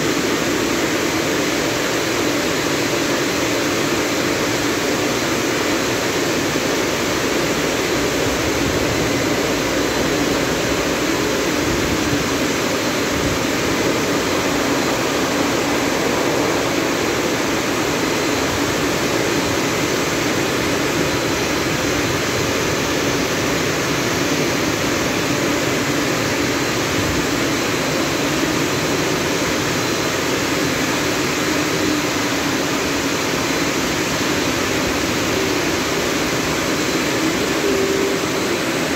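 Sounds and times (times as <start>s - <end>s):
car wash drying blowers: 0.0s - 38.9s.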